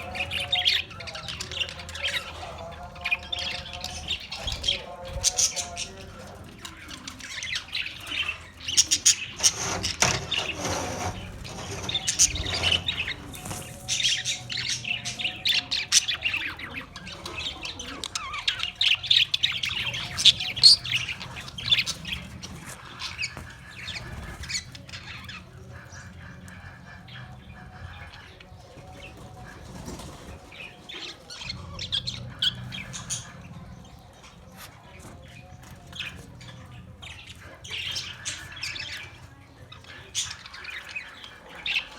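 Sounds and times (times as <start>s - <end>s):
parrots chirping and squawking: 0.0s - 41.9s.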